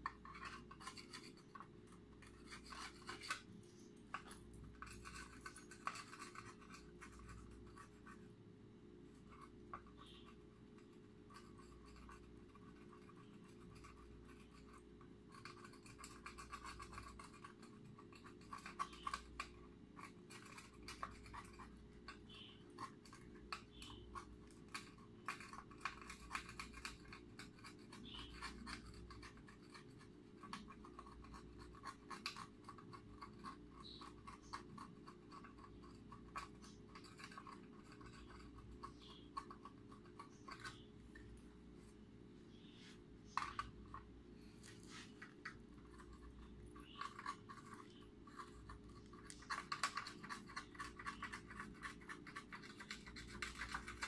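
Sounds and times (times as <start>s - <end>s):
hands scratching and rustling wiring: 0.0s - 8.4s, 9.2s - 54.0s
low steady hum: 0.0s - 54.0s.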